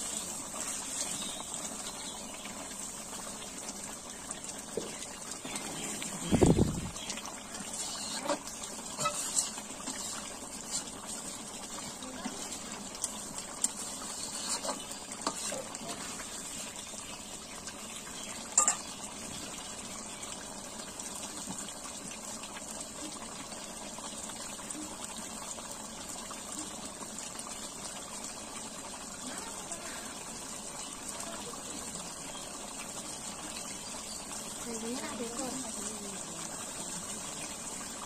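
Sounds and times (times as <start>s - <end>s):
curry simmering and bubbling: 0.0s - 38.0s.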